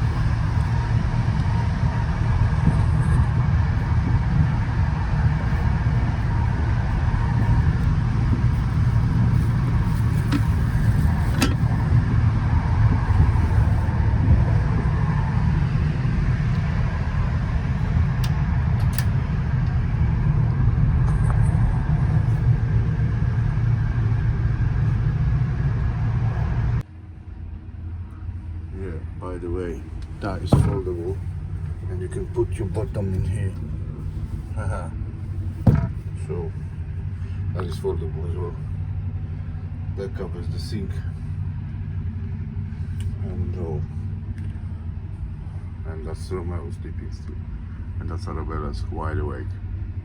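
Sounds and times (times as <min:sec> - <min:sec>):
train rumble: 0:00.0 - 0:50.0.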